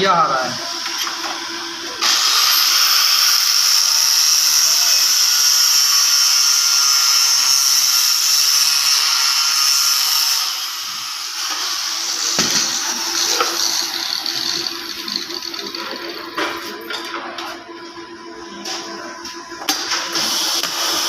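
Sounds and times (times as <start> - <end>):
grinder whining on steel: 0.0 - 21.0.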